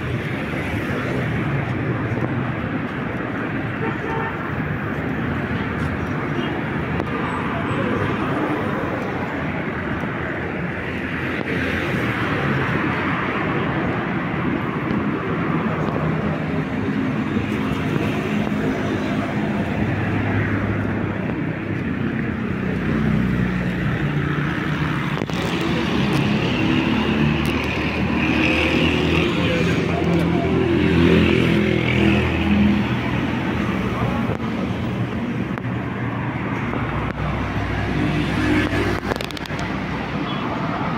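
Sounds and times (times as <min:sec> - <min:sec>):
cars driving along road: 0:00.0 - 0:40.9.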